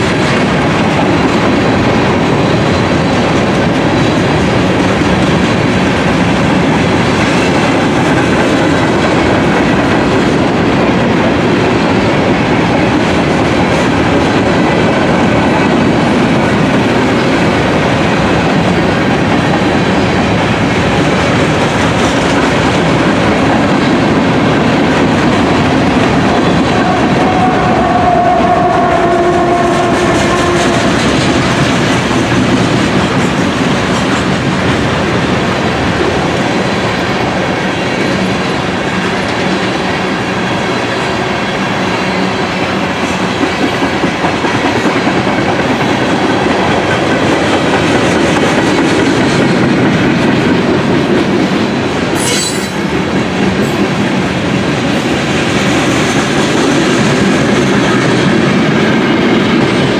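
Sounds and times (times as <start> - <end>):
train wheels rushing on rails: 0.0 - 59.9.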